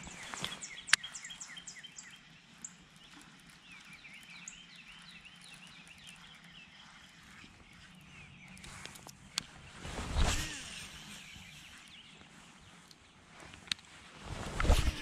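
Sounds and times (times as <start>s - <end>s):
birds chirping and calling: 0.0s - 9.6s, 10.5s - 13.4s.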